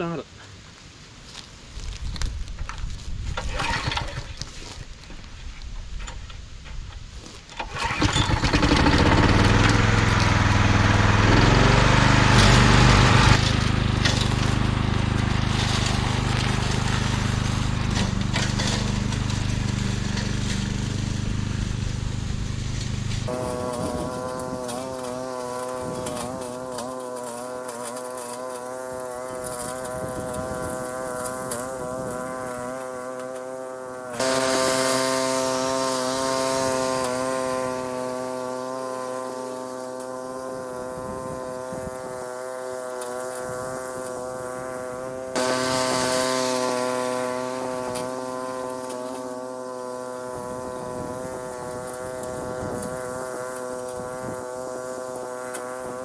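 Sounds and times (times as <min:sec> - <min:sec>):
lawn mower engine running: 0:07.2 - 0:56.0.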